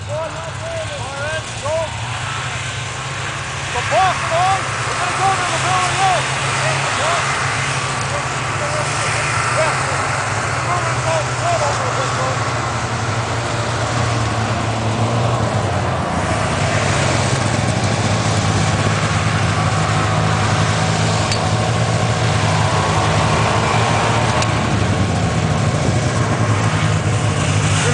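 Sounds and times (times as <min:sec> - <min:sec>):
snowmobile engine idling: 0:00.0 - 0:27.9.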